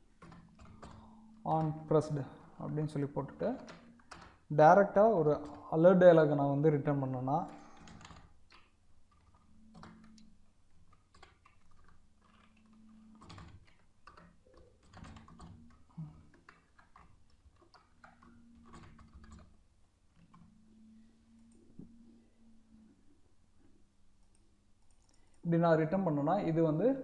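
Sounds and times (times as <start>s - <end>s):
keyboard typing: 0.0s - 22.8s, 24.2s - 25.5s
faint low hum: 0.0s - 27.0s.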